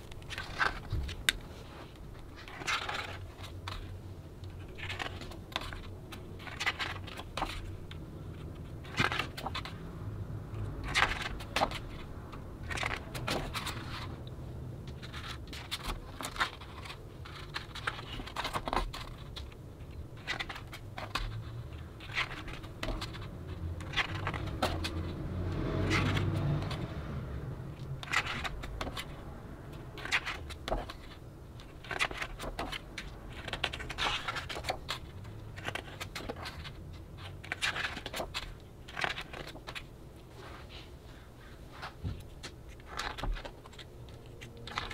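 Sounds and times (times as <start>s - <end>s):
book pages turning: 0.0s - 44.9s.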